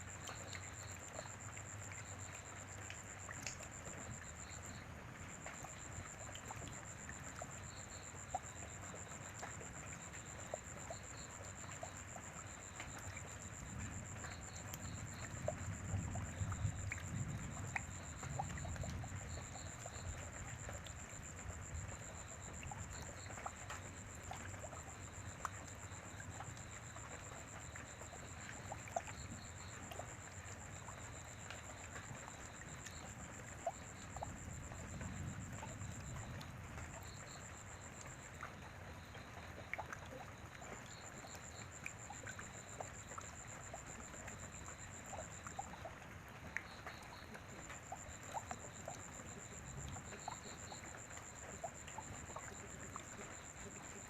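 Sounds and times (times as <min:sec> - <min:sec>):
steady rain: 0:00.0 - 0:54.0
water drips: 0:00.0 - 0:54.0.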